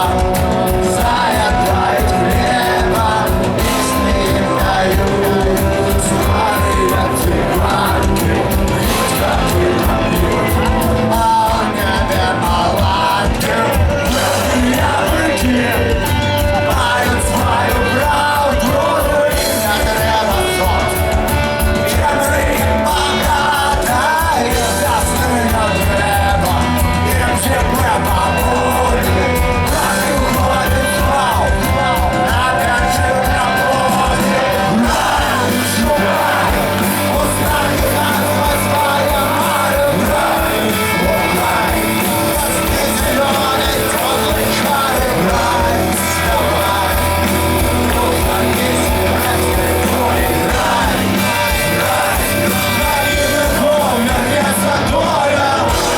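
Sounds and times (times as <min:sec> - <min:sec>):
rock band playing live: 0:00.0 - 0:55.9.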